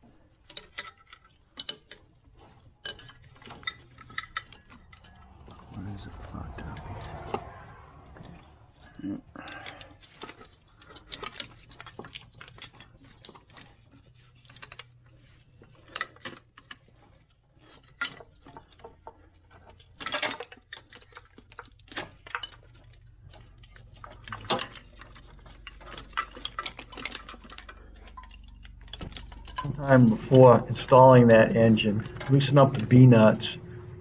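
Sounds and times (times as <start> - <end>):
tools clicking on metal parts: 0.0 - 5.5, 9.4 - 33.0
metal scraping rasps: 0.0 - 34.0.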